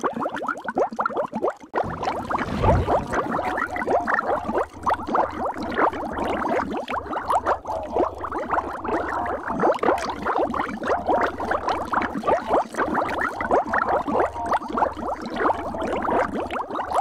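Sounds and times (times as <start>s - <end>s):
water bubbling and gurgling: 0.0s - 17.0s.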